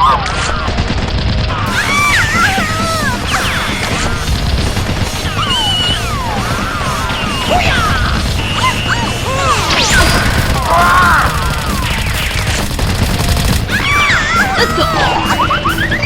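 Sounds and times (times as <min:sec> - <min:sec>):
background music: 0:01.5 - 0:16.0.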